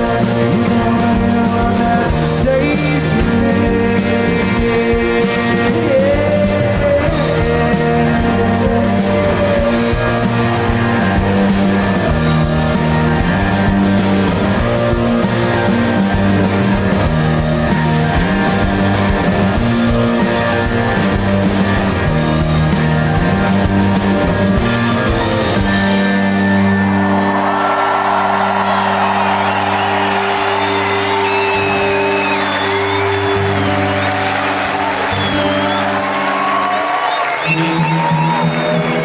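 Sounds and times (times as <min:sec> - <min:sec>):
crowd cheering: 0:00.0 - 0:39.0
rock band playing live: 0:00.0 - 0:39.0.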